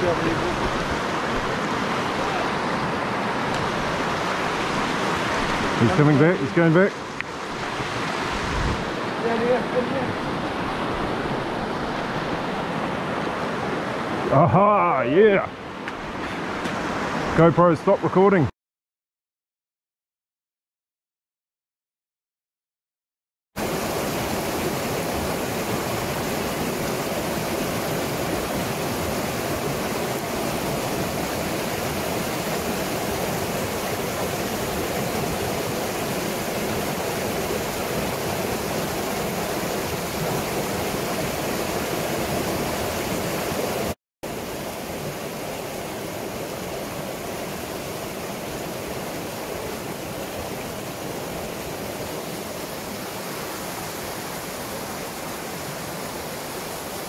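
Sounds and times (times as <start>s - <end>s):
stream flowing over stones: 0.0s - 17.4s, 23.6s - 57.0s.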